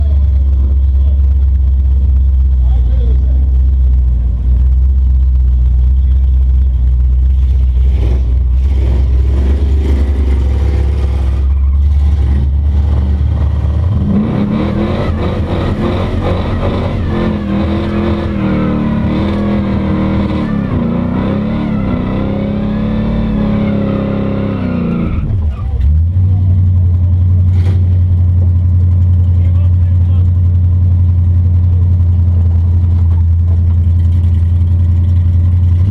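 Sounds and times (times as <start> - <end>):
hot rod engine rumbling and revving: 0.0 - 35.9.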